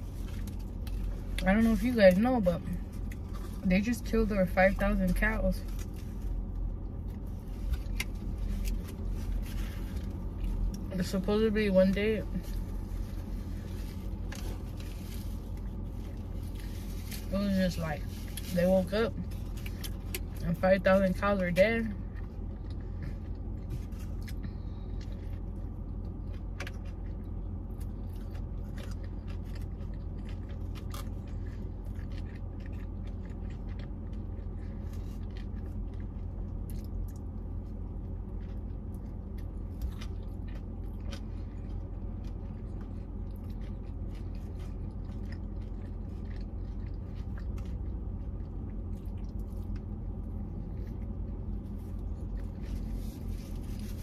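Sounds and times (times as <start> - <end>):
crunchy chewing of food: 0.0 - 54.0
steady low hum: 0.0 - 54.0.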